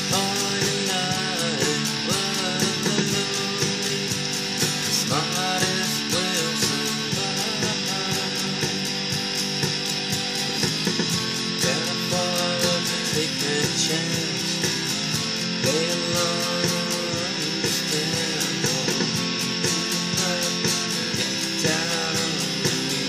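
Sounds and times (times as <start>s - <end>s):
electric guitar strummed: 0.0s - 23.0s.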